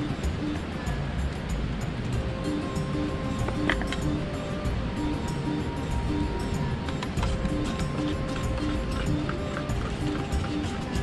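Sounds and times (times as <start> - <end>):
instrumental music with held notes: 0.0 - 11.0.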